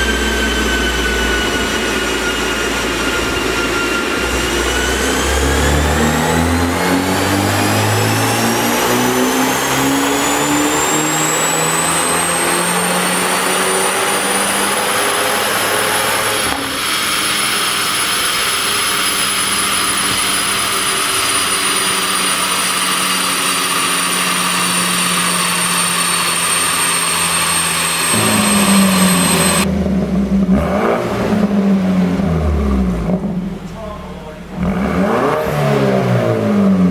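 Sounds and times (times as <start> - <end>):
high whine: 0.0 - 35.2
car engine on dyno under load: 0.0 - 36.9.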